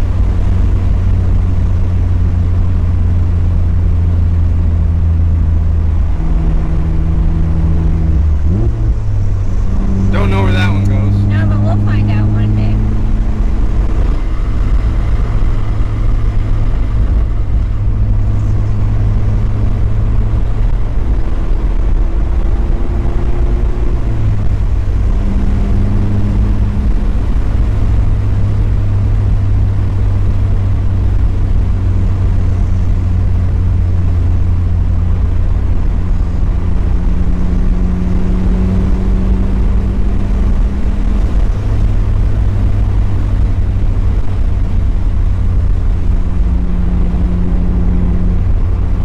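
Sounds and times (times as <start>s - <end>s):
car engine running: 0.0s - 49.0s
road noise: 0.0s - 49.0s.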